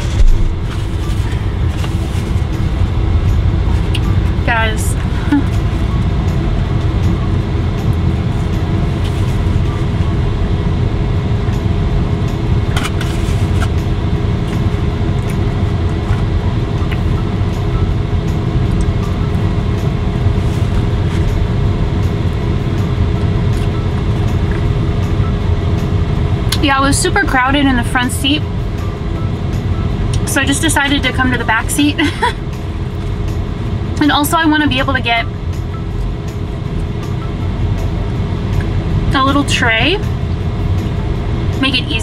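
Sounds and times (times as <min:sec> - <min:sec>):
low rumble inside car cabin: 0:00.0 - 0:42.0.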